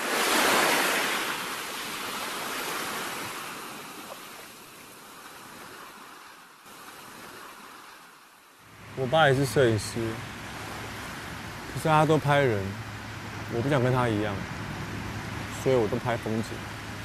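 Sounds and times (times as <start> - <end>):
small waves washing on sand: 0.0 - 17.0.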